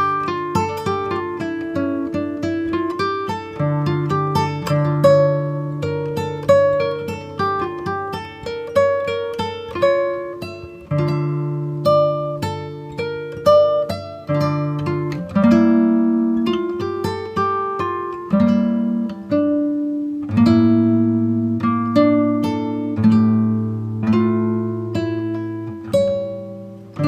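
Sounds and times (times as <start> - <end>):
acoustic guitar picking melody: 0.0 - 27.0.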